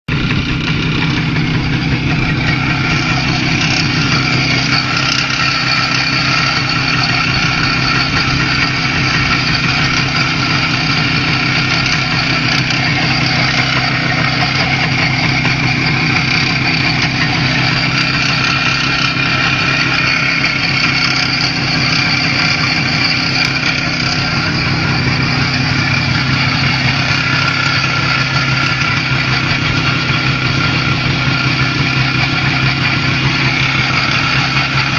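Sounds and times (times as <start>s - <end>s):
two-stroke engine idling: 0.0s - 34.9s.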